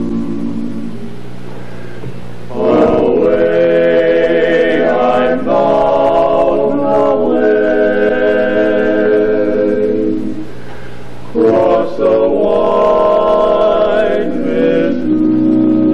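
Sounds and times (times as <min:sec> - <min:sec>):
male quartet singing a cappella: 0:00.0 - 0:01.1, 0:02.5 - 0:10.6, 0:11.3 - 0:15.9.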